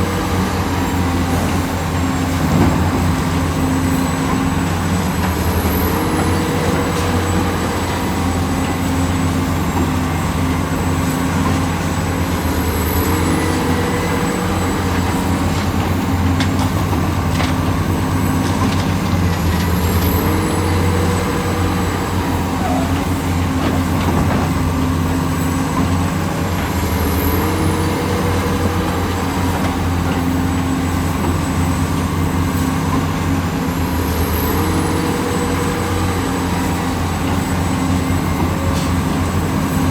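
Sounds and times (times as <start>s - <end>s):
diesel construction machinery running: 0.0s - 39.9s.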